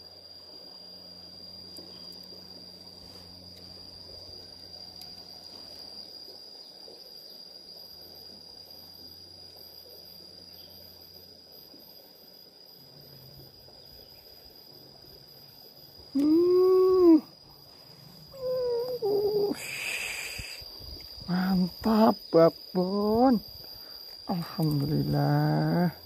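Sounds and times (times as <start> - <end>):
insect trilling: 0.0 - 26.0.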